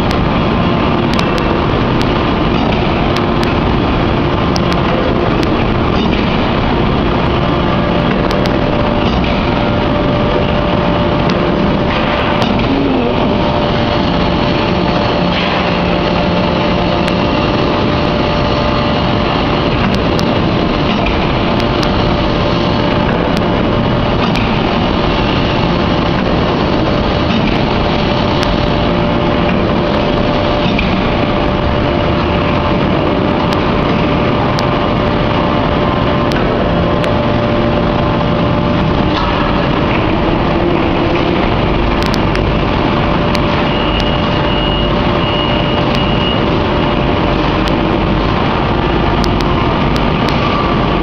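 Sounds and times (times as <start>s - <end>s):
constant whine: 0.0s - 51.0s
forging press machinery drone: 0.0s - 51.0s.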